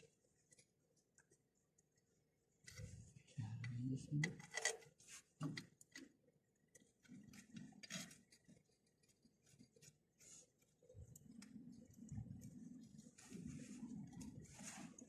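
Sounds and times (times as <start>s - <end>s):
faint scrapes and clicks: 0.0s - 15.0s.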